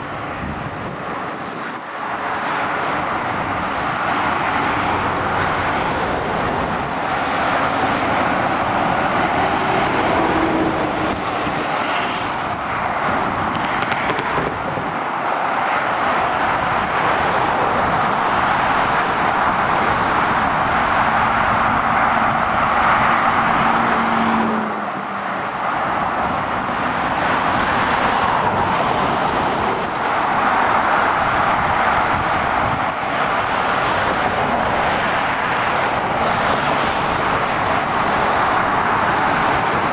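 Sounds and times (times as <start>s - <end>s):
lorries and cars passing: 0.0s - 39.9s.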